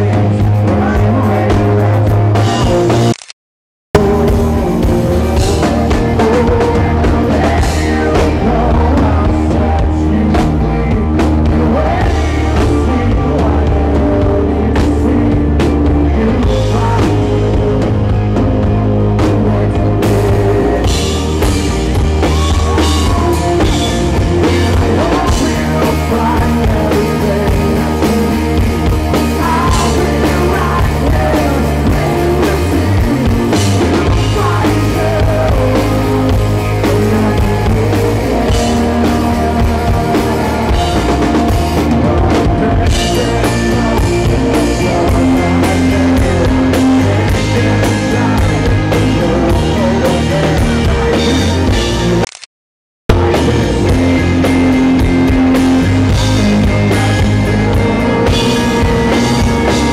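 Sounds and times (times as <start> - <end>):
live rock band playing: 0.0 - 3.3, 4.0 - 52.4, 53.1 - 59.9.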